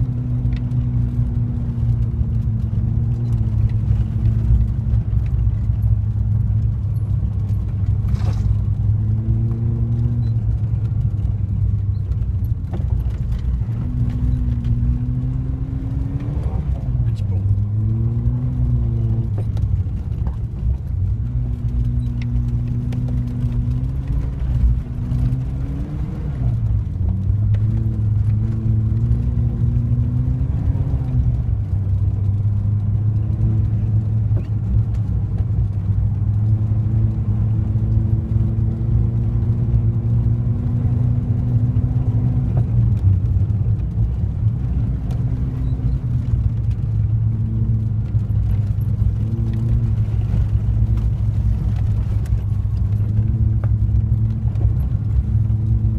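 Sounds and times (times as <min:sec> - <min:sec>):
car engine from inside cabin: 0:00.0 - 0:55.9
low road rumble: 0:00.0 - 0:55.9.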